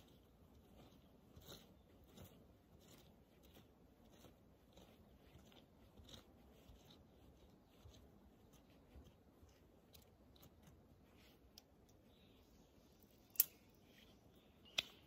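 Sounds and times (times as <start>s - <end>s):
charcoal crunching and clicking: 0.0s - 12.0s, 13.3s - 13.6s.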